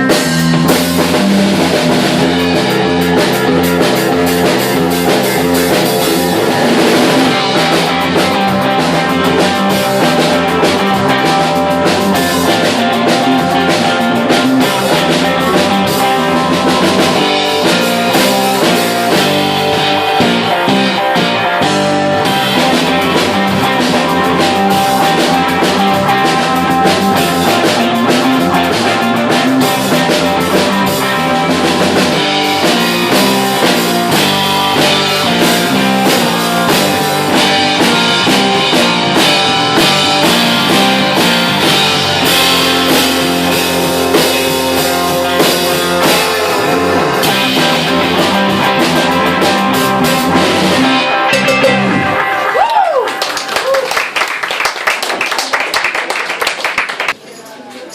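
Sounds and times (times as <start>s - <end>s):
rock band playing: 0.0s - 57.2s.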